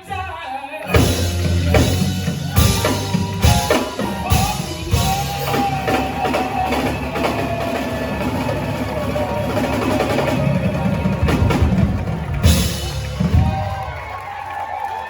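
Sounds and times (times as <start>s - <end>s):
drum kit hits: 0.9s - 14.1s
steady bass line: 0.9s - 14.1s.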